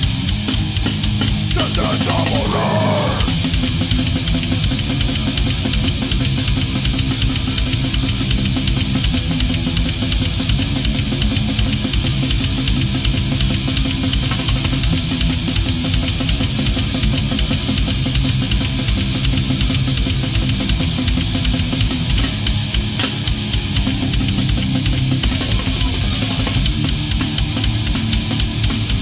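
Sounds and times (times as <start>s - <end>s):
distorted electric guitars: 0.0s - 29.0s
extreme metal band playing: 0.0s - 29.0s
fast drum beats: 0.0s - 29.0s.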